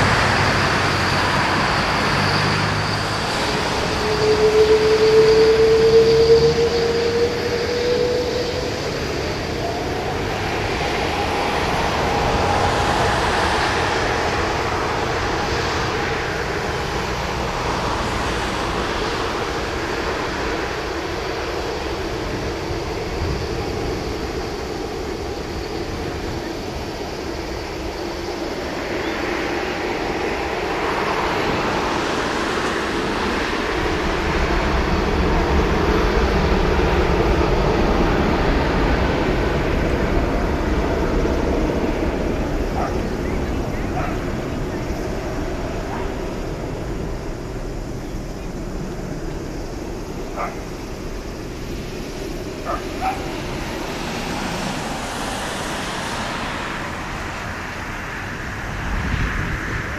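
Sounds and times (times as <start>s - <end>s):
jet engine rumble and hiss: 0.0s - 59.9s
rising jet engine whine: 0.0s - 59.9s.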